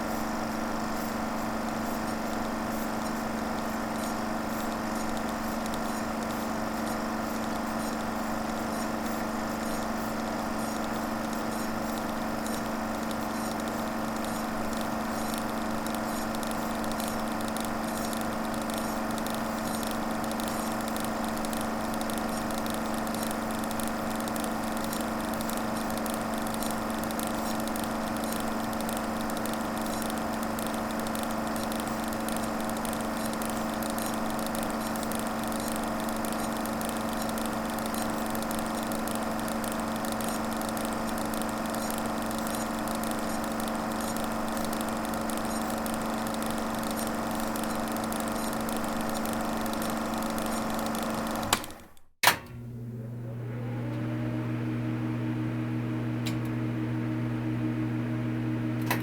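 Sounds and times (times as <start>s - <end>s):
film projector motor hum: 0.0s - 59.0s.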